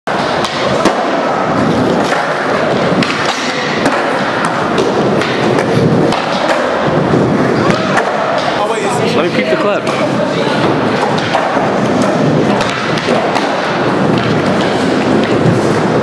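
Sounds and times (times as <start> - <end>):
skateboards clacking and thudding: 0.1 - 9.1, 9.8 - 16.0
skateboard wheels rolling on concrete: 0.1 - 16.0.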